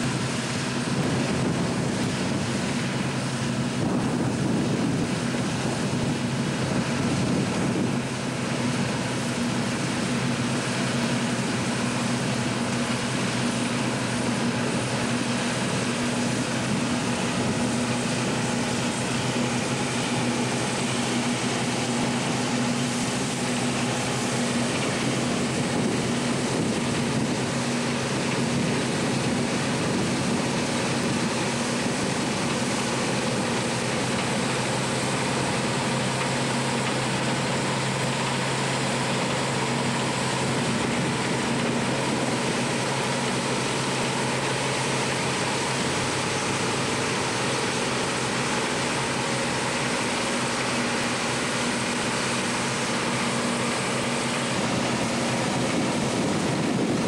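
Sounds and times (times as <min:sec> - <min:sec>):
combine harvester droning: 0:00.0 - 0:57.0
tractor running: 0:00.0 - 0:57.0.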